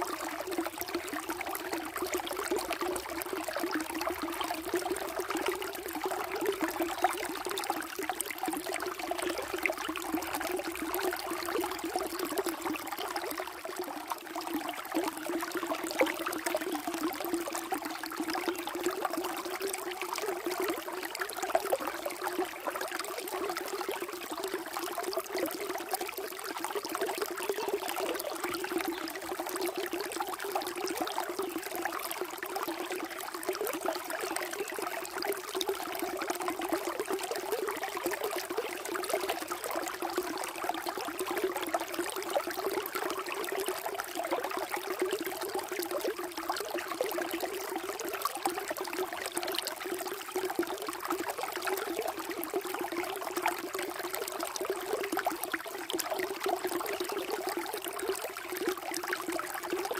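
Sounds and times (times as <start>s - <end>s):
stream trickling and burbling: 0.0s - 59.9s.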